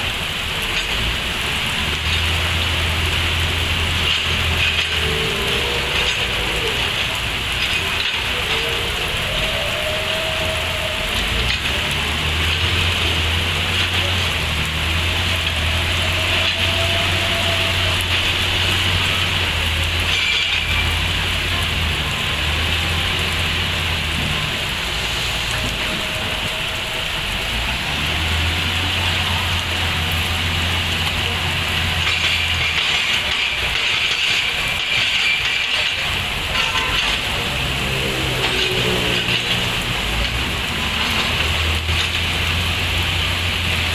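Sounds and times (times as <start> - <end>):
excavator diesel engine: 0.0 - 43.9
steady rushing hiss: 0.0 - 43.9.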